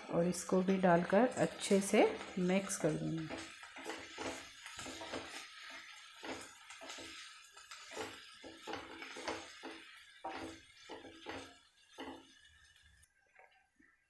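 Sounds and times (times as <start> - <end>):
spatula scraping a pan: 0.5 - 14.0.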